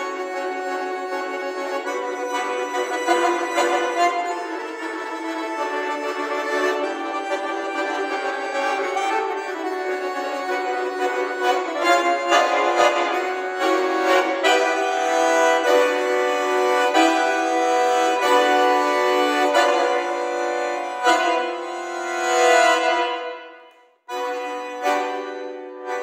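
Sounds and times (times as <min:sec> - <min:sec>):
button accordion chords: 0:00.0 - 0:26.0.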